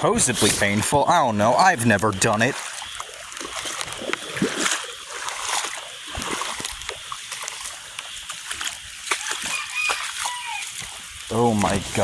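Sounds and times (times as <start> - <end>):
wading through water splashing: 0.0 - 12.0.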